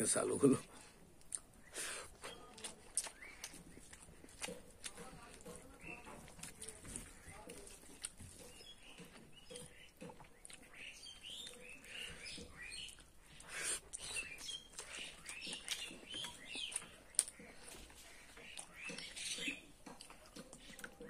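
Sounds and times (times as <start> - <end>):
wet chewing and lip-smacking: 0.6 - 21.0.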